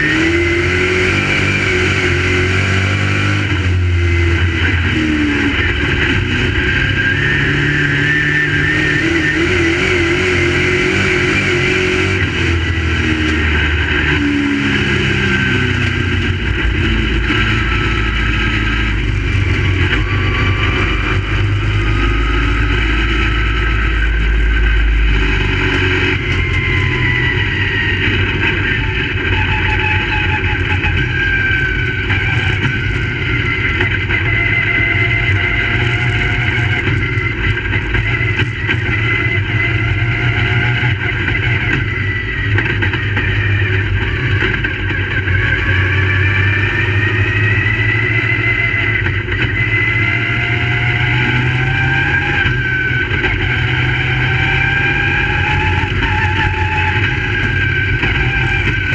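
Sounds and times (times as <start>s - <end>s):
race car engines racing: 0.0s - 58.9s.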